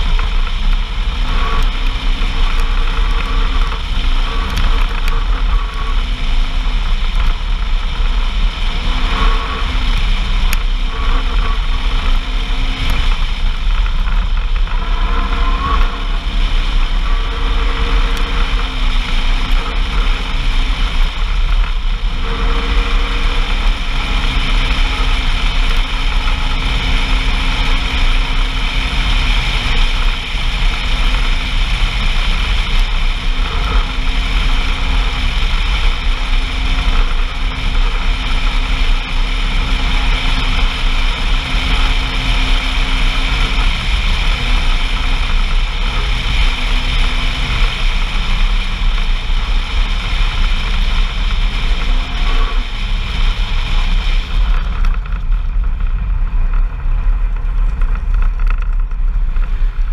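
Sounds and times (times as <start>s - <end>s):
constant rush of noise: 0.0s - 59.9s
vehicle engine running: 0.0s - 59.9s.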